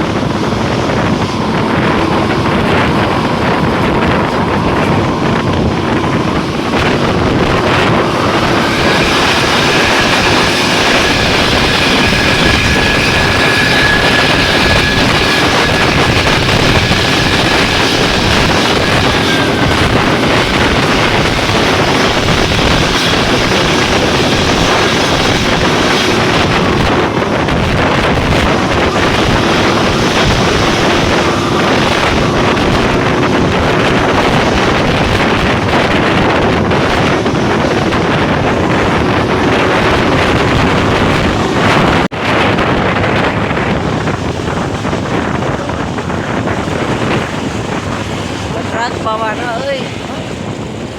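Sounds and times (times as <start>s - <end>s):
road and engine noise: 0.0s - 50.9s
wind buffeting microphone: 0.0s - 50.9s.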